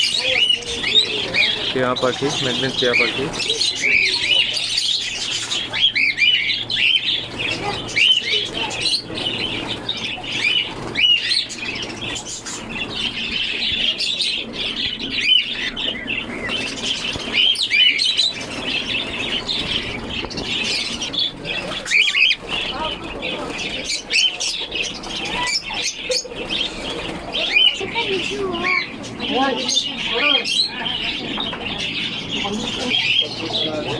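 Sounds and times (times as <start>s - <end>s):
parrots chirping and squawking: 0.0s - 33.9s.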